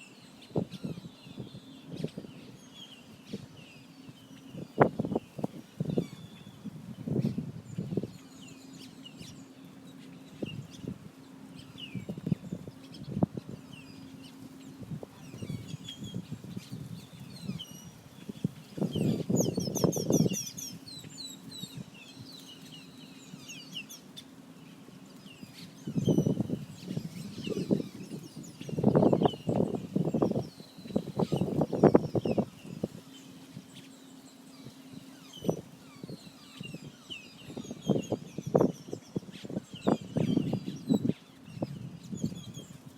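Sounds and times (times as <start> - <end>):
faint steady hum: 0.0 - 42.9
small birds chirping: 0.0 - 42.9.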